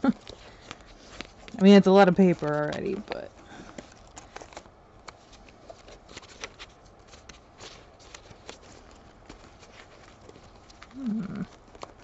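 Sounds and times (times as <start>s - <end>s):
paper rustling and tapping: 0.1s - 12.0s.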